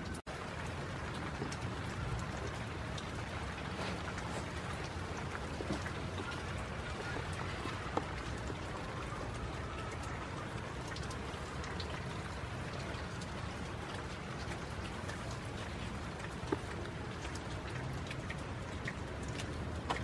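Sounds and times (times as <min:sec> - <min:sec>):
raindrops tapping: 0:00.0 - 0:20.0
steady rain falling: 0:00.0 - 0:20.0.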